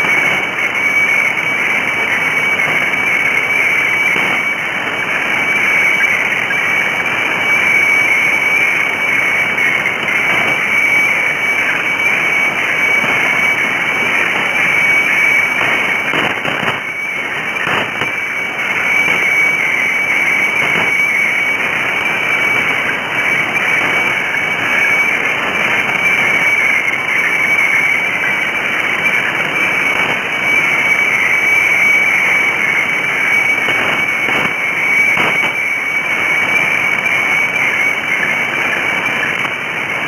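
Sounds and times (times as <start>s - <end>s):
radio noise hiss: 0.0s - 40.0s
static crackles: 0.0s - 40.0s
steady high radio tone: 0.0s - 40.0s.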